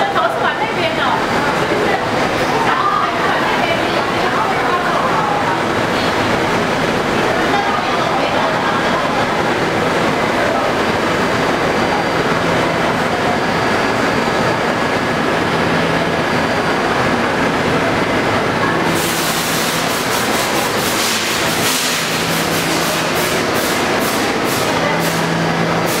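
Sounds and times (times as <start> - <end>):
subway train humming: 0.0 - 26.0.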